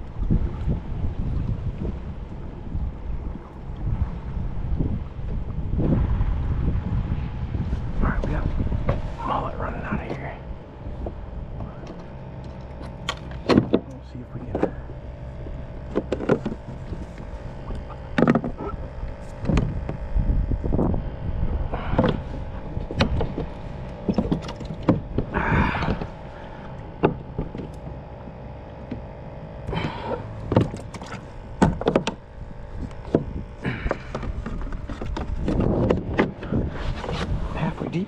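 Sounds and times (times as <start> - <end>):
gear knocking and rattling on kayak: 0.0 - 38.0.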